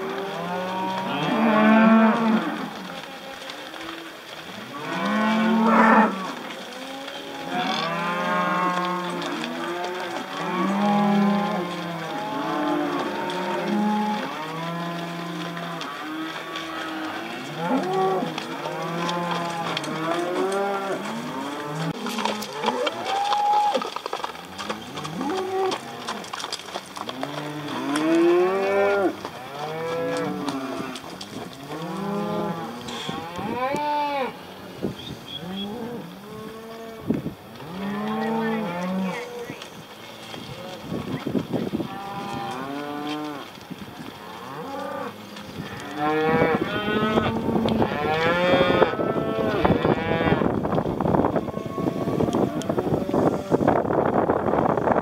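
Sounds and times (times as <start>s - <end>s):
cattle mooing: 0.0s - 23.9s, 24.6s - 26.3s, 27.1s - 34.4s, 35.3s - 37.0s, 37.6s - 39.6s, 41.9s - 43.5s, 44.2s - 50.5s.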